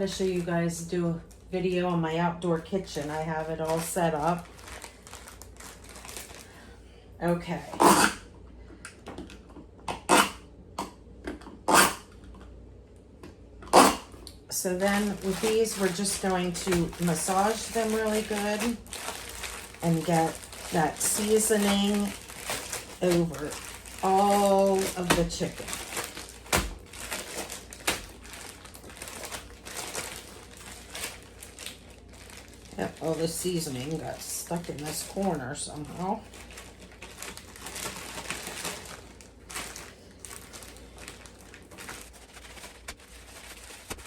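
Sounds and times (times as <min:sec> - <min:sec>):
plastic bags crinkling: 0:00.0 - 0:06.8, 0:14.5 - 0:44.0.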